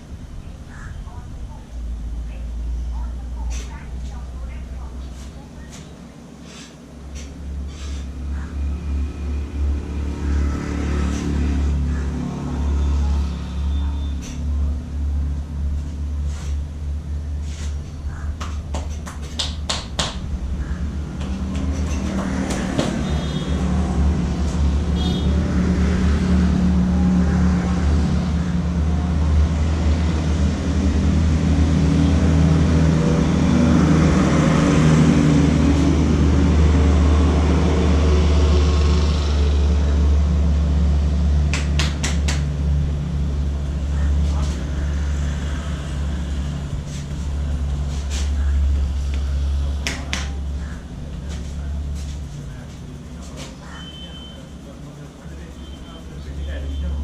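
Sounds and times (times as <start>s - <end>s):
road traffic engine rumble: 0.0s - 57.0s.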